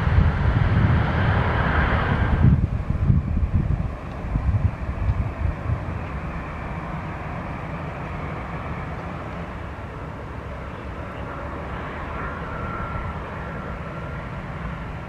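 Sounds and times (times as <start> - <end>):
faint engine whine: 0.0 - 15.0
jet engines idling: 0.0 - 15.0.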